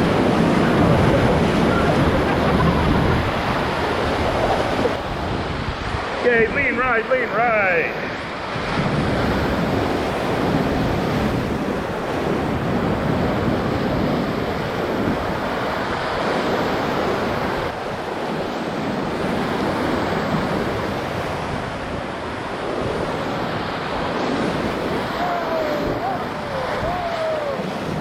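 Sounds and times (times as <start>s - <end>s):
wind buffeting microphone: 0.0s - 6.7s, 8.0s - 28.0s
rapids churning: 0.0s - 28.0s.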